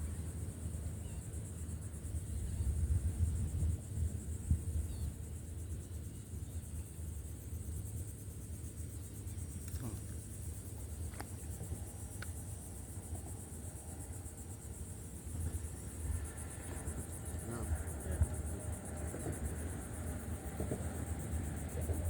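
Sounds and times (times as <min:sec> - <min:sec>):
constant low rumble: 0:00.0 - 0:22.0
insects chirring: 0:00.0 - 0:22.0.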